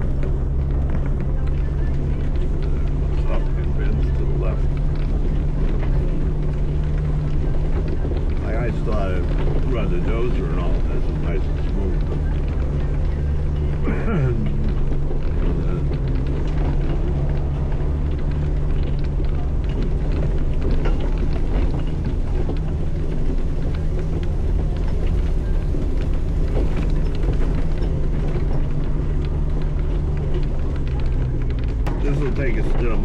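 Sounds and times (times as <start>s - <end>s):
rattles and knocks: 0.0s - 33.0s
vehicle engine running: 0.0s - 33.0s.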